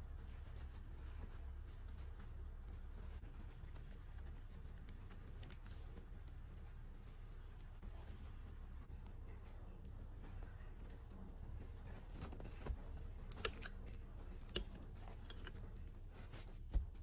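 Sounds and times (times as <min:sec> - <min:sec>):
fabric rustling: 0:00.0 - 0:17.0
low steady hum: 0:00.0 - 0:17.0.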